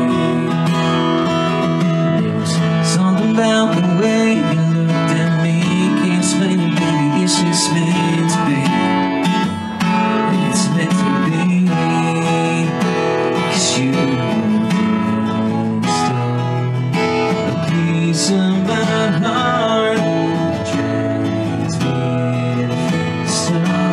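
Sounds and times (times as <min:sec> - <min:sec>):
acoustic guitar strumming: 0:00.0 - 0:23.9
man singing into microphone: 0:00.0 - 0:23.9.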